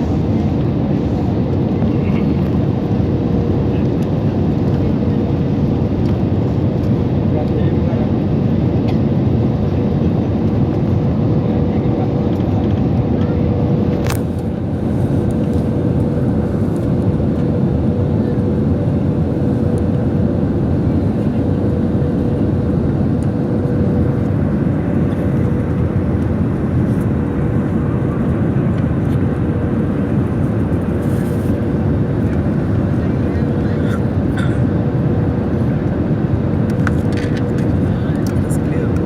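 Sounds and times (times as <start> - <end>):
airliner engine and airflow rumble: 0.0 - 39.0.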